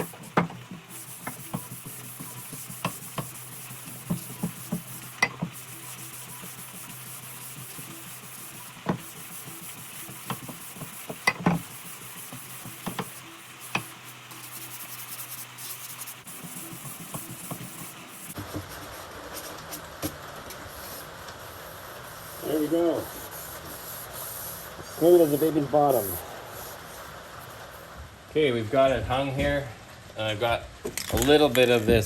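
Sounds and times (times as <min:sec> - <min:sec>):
sandpaper rubbing hiss: 0:00.0 - 0:19.9, 0:20.6 - 0:27.9.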